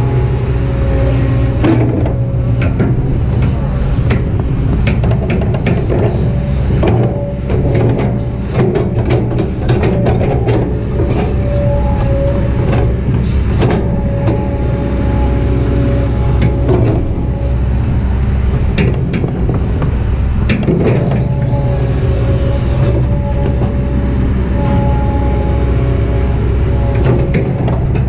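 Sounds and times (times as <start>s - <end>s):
diesel engine rumble: 0.0s - 28.0s
hydraulic whine: 0.0s - 28.0s.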